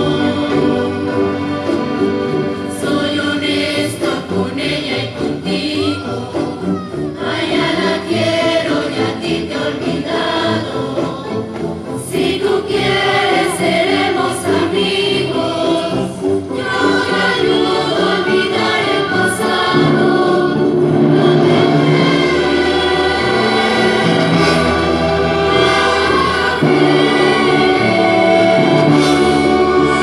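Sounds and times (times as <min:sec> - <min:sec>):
choir singing sustained notes: 0:00.0 - 0:30.0
symphony orchestra playing: 0:00.0 - 0:30.0.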